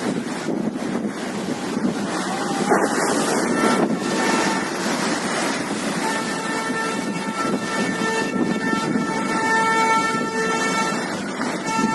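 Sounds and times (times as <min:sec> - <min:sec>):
wind on microphone: 0:00.0 - 0:11.9
breaking water: 0:00.7 - 0:11.9
horn long steady note: 0:02.1 - 0:11.9.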